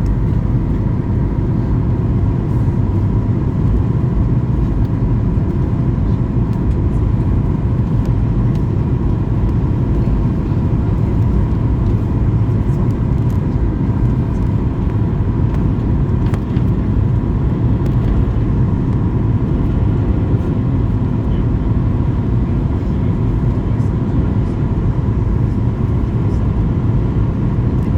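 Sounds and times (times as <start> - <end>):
jet airliner cabin rumble: 0.0 - 27.9.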